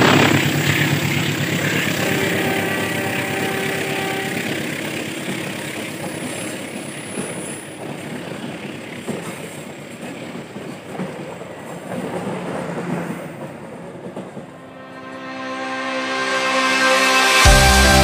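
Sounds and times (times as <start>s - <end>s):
train wheels clattering over rail joints: 0.0s - 14.6s.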